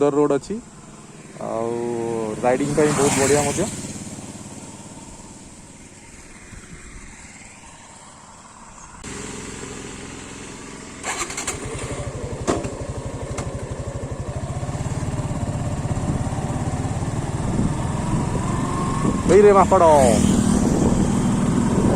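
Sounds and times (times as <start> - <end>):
motorcycle engine: 0.0 - 21.9.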